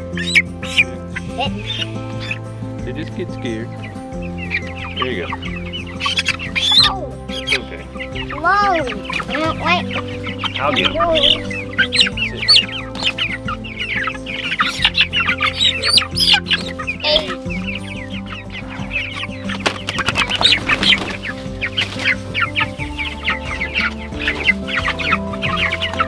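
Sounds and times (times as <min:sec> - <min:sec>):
background music: 0:00.0 - 0:26.0
chicks peeping and cheeping: 0:00.0 - 0:26.0.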